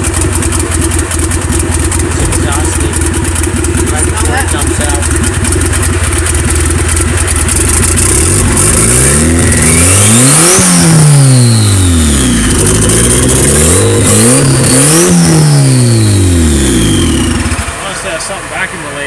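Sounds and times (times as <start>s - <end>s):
turbo whine: 0.0s - 17.9s
car engine idling and revving: 0.0s - 19.0s.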